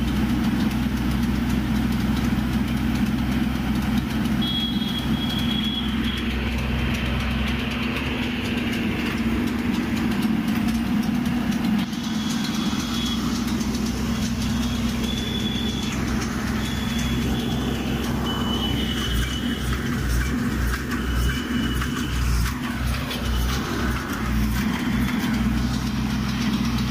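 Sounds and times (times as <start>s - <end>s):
drilling rig engine idling: 0.0s - 26.9s.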